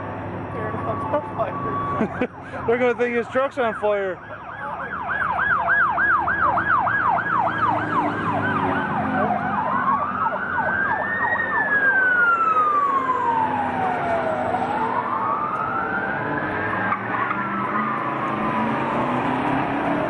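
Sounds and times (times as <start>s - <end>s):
fire truck siren: 0.0s - 20.0s.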